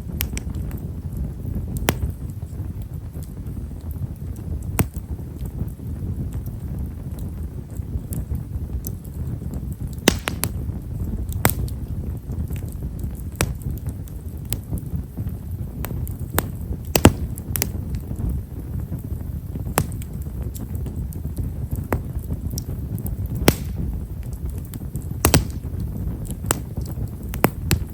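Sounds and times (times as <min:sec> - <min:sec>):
fire low rumble: 0:00.0 - 0:27.9
wood fire crackling pops: 0:00.0 - 0:27.9.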